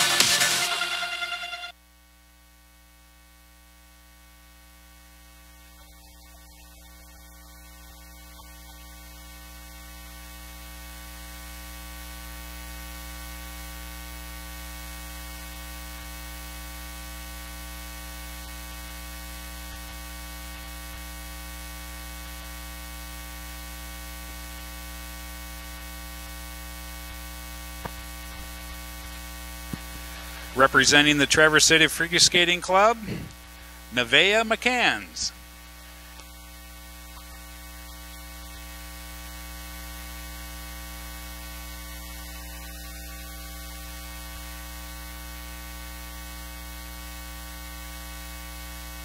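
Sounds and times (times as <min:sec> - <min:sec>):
electrical mains hum: 0:00.0 - 0:49.0.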